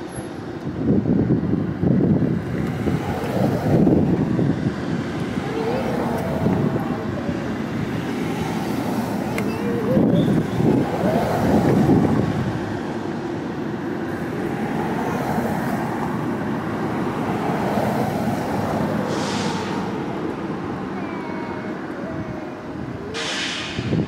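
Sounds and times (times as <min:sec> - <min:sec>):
vehicle engines rumbling: 0:00.0 - 0:24.0.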